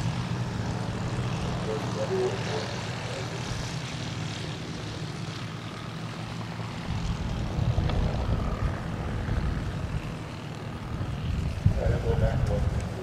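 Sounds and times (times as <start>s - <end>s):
propeller engine drone: 0.0s - 13.0s.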